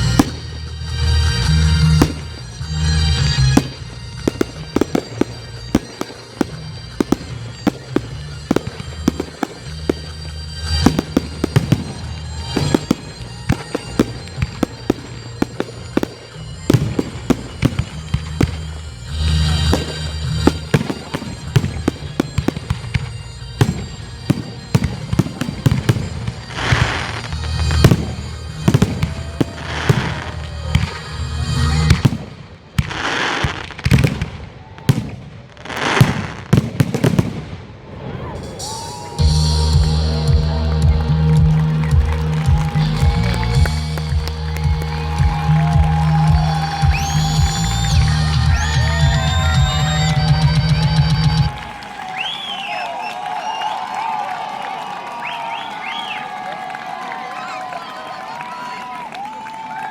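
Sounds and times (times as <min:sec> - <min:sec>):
music: 0:00.0 - 0:34.3, 0:37.1 - 0:54.9
fireworks hissing bursts: 0:00.0 - 0:52.6
fireworks bangs and crackles: 0:00.0 - 0:59.9.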